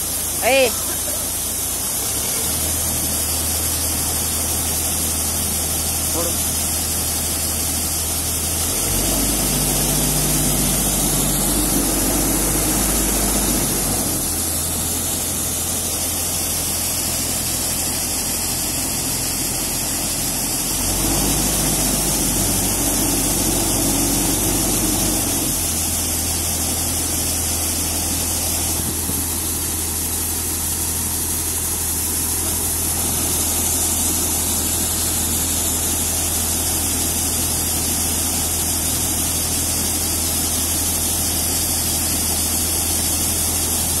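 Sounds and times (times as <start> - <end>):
combine harvester engine hum: 0.0 - 44.0.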